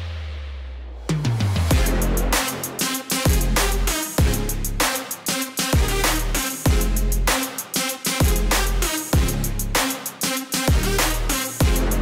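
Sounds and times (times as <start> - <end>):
sharp hi-hat strokes: 1.1 - 12.0.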